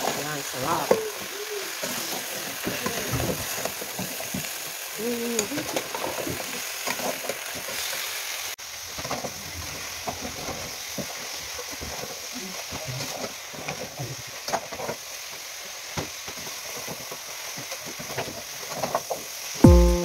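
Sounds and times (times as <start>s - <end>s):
chicken feet sizzling in oil: 0.0s - 20.0s.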